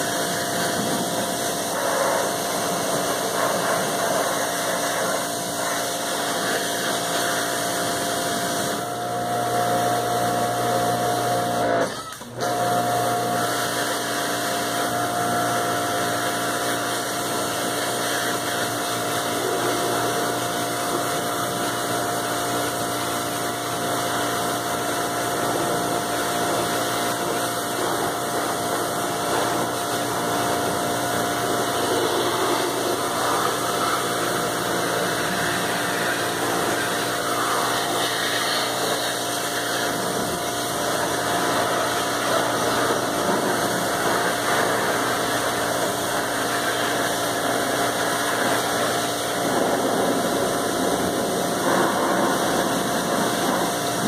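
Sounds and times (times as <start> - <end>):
water jet hissing: 0.0 - 9.1, 9.7 - 54.0
pressure washer motor humming: 0.0 - 54.0.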